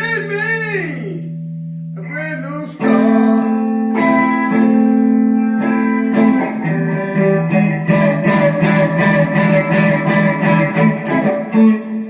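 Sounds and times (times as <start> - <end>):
guitar chords ringing: 0.0 - 12.0
guitar strumming: 0.0 - 12.0.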